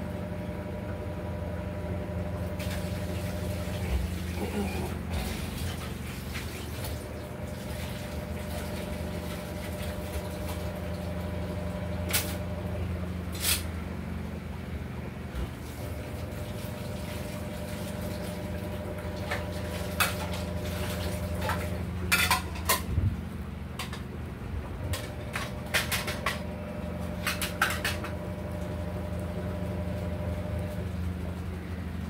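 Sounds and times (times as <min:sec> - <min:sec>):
tap water running: 0:02.3 - 0:12.7, 0:15.4 - 0:22.8, 0:23.7 - 0:32.0.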